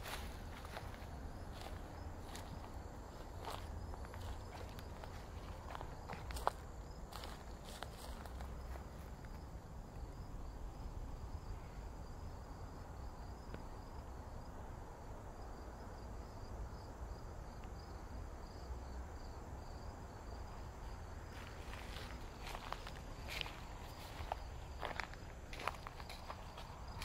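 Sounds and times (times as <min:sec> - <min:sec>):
crickets chirping: 0:00.0 - 0:27.0
high insect trill: 0:00.0 - 0:27.0.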